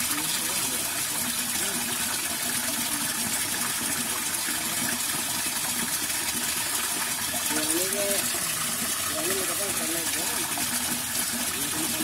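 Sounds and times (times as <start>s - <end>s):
water rushing through culvert: 0.0s - 12.0s.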